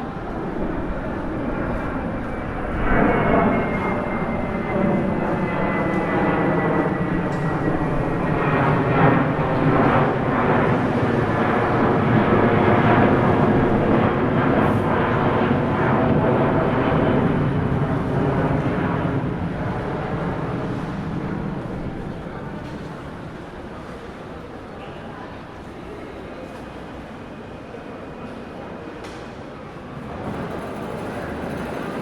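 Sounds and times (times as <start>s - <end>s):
jet engines running: 0.0s - 26.1s, 29.1s - 32.0s.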